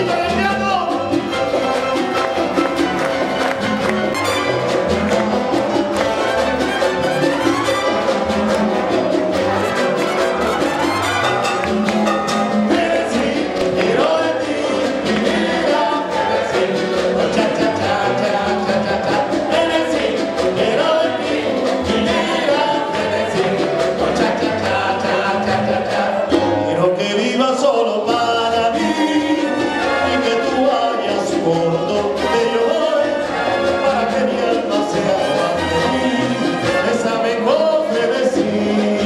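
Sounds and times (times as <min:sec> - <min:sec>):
live dance band playing: 0:00.0 - 0:27.0, 0:28.0 - 0:39.0.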